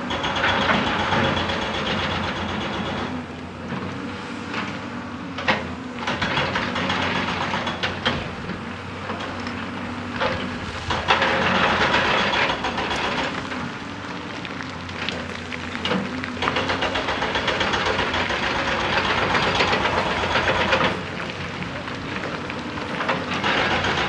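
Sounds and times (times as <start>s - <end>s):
excavator diesel engine running: 0.0s - 24.0s
rough grinding noise: 0.1s - 24.0s.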